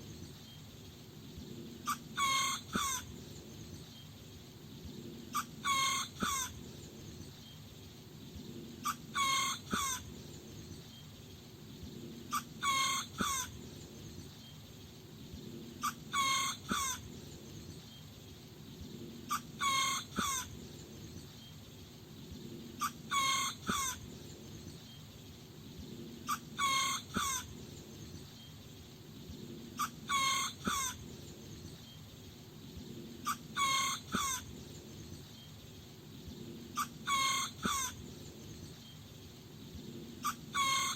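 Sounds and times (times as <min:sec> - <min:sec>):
faint low hum: 0:00.0 - 0:40.9.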